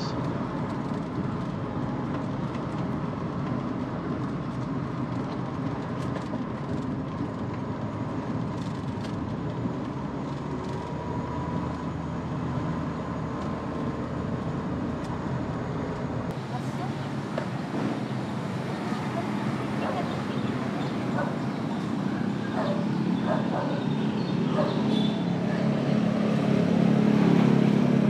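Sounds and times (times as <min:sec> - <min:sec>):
van road and engine noise: 0:00.0 - 0:28.0.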